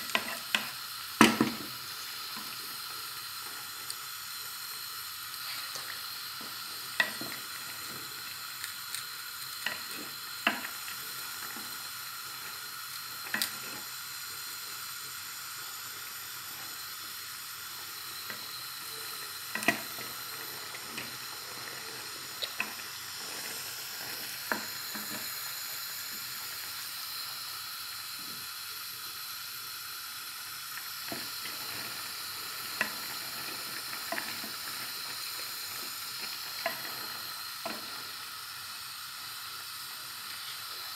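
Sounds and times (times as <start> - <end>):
curry boiling with sizzling hiss: 0.0 - 40.9.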